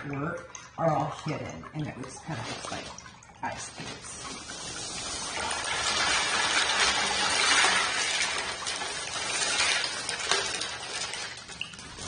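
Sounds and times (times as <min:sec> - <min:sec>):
plastic pieces poured into metal tub: 0:02.2 - 0:12.0.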